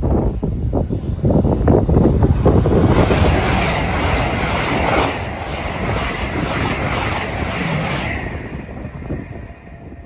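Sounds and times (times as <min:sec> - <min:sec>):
train passing with rushing wheels: 0:00.4 - 0:10.0.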